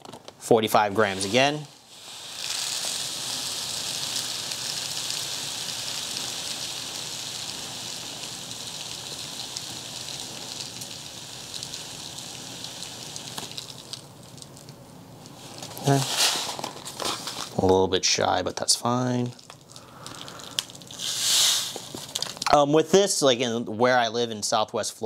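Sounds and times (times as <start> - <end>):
granules trickling into paper cup: 0.0 - 17.8, 18.9 - 22.6.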